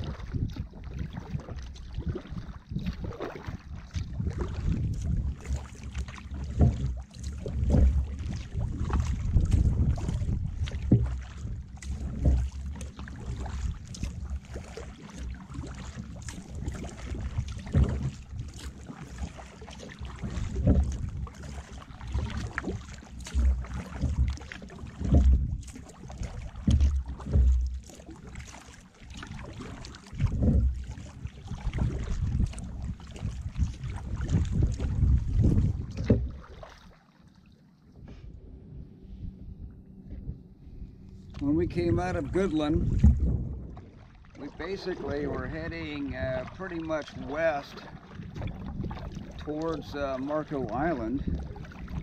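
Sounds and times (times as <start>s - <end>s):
wind rumble on microphone: 0.0s - 28.2s, 29.1s - 36.7s, 38.0s - 52.0s
paddle strokes in water: 0.0s - 52.0s.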